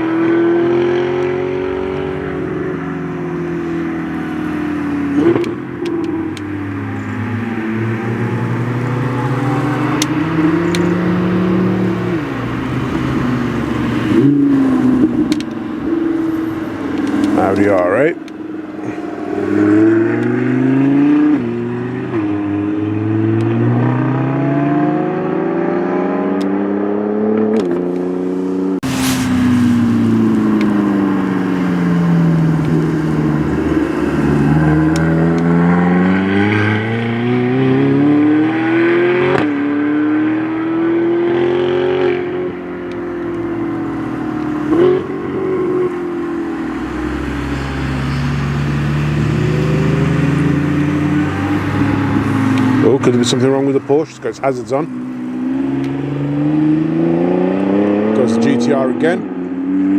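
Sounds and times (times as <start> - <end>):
car engines accelerating and braking: 0.0 - 59.9.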